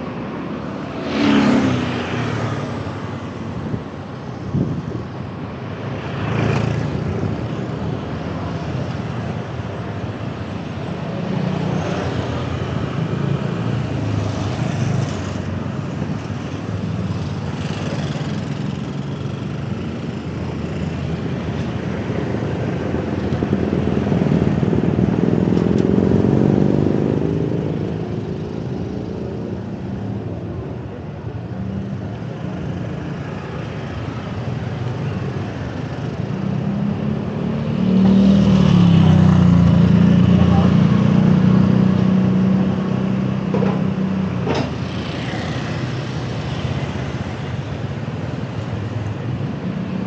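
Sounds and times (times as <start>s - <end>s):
city street traffic: 0.0s - 50.0s.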